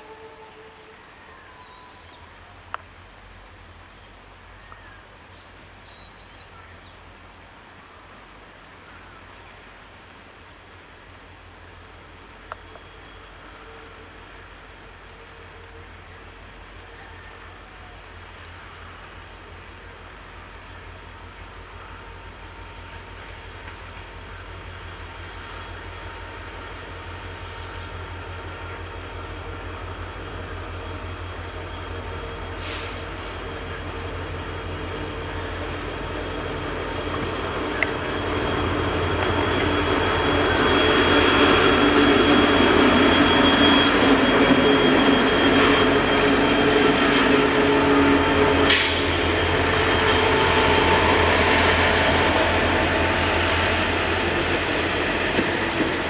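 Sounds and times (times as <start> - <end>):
train on rails: 0.0 - 56.0.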